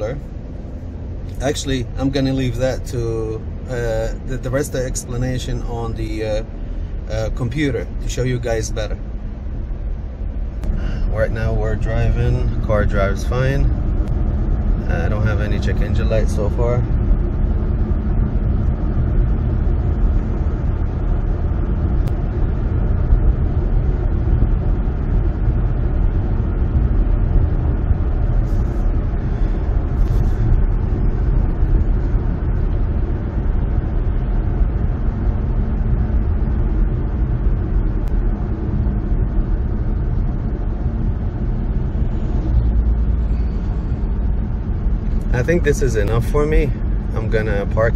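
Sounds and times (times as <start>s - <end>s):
car engine hum: 0.0s - 47.9s
road and tyre noise in car: 0.0s - 47.9s.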